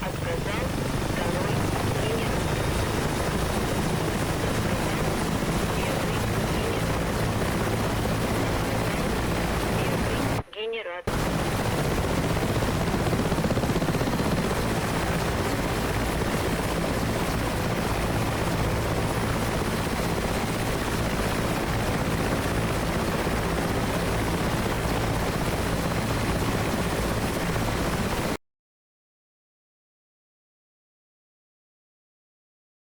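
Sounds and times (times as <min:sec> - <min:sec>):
helicopter running steadily: 0:00.0 - 0:28.4.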